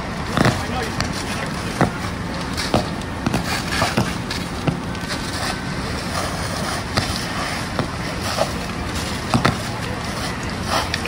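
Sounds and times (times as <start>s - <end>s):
fire popping and crackling: 0.0s - 11.0s
house fire rushing: 0.0s - 11.0s.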